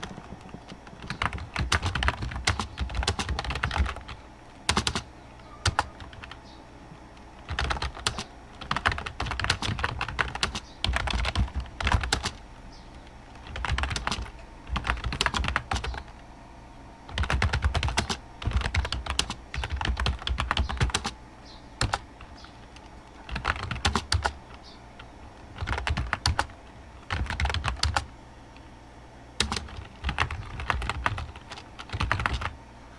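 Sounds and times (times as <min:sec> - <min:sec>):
keyboard typing: 0:00.0 - 0:16.2, 0:17.1 - 0:21.2, 0:21.8 - 0:28.7, 0:29.4 - 0:32.6.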